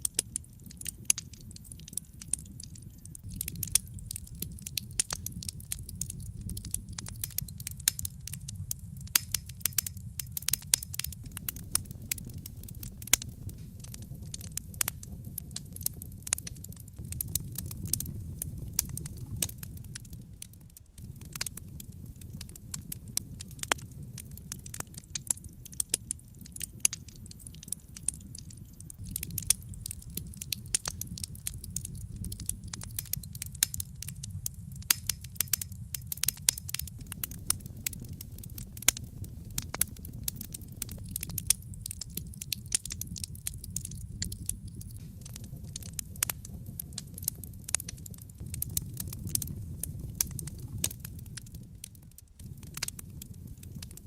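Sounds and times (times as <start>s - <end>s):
low rumble of flames: 0.0s - 54.0s
sharp pops and snaps: 0.0s - 54.0s
wood fire crackling: 0.0s - 54.0s.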